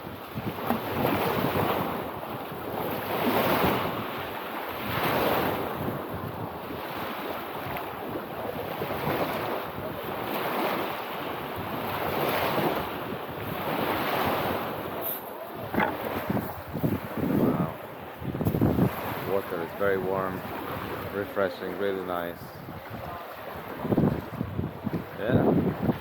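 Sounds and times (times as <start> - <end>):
lake waves washing onto shore: 0.0 - 26.0
wind on microphone: 0.0 - 26.0.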